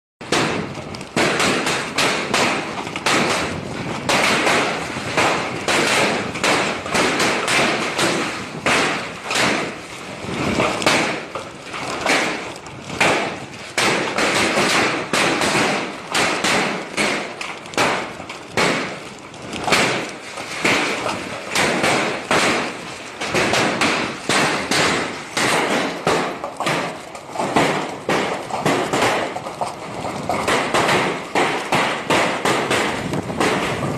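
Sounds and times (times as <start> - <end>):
hailstones pelting down: 0.2 - 33.9.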